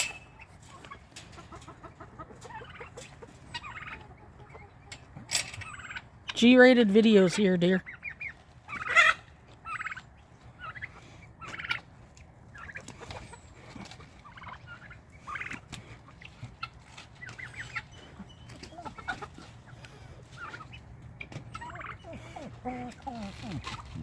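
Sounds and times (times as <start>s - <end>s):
poultry squawks and buzzy calls: 0.0s - 6.4s, 7.8s - 24.0s.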